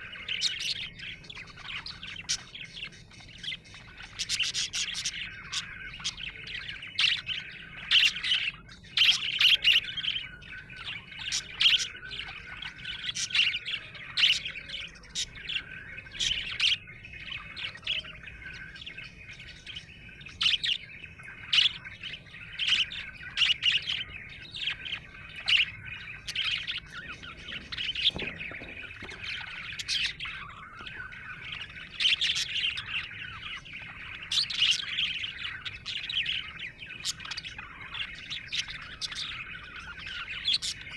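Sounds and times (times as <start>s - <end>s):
budgerigar chirping and warbling: 0.0s - 40.9s.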